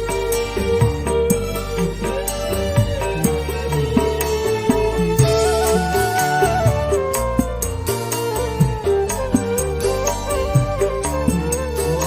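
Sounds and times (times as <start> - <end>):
gliding melody line: 0.0 - 12.0
sharp drum strokes: 0.0 - 12.0
steady bass: 0.0 - 12.0.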